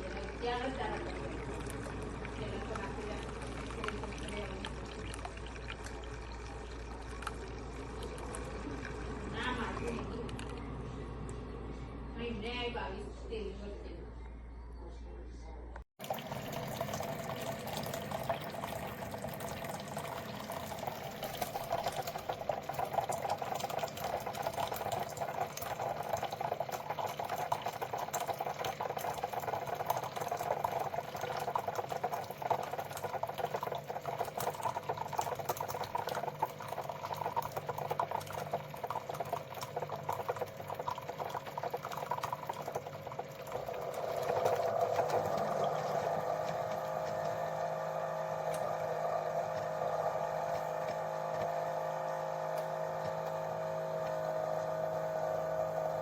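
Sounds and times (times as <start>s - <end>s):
coffee maker bubbling and trickling: 0.0s - 11.6s, 16.0s - 56.0s.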